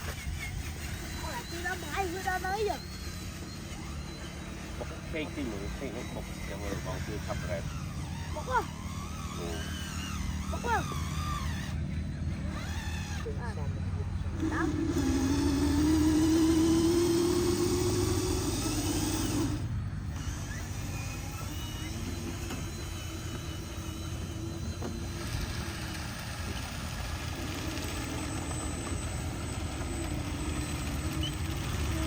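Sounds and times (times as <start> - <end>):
small electric motor whine: 0.0 - 32.0.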